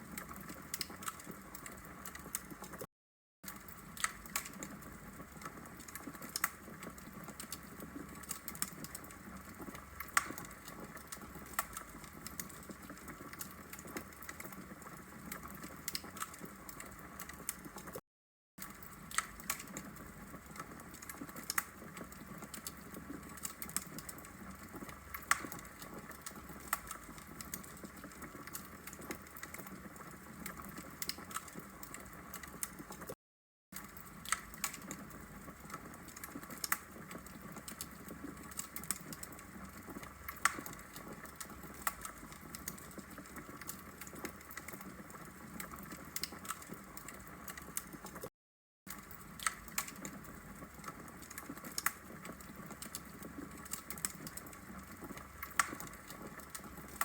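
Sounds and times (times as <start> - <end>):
wood fire crackling: 0.0 - 2.8, 3.5 - 18.0, 18.6 - 33.2, 33.8 - 48.3, 48.9 - 57.0.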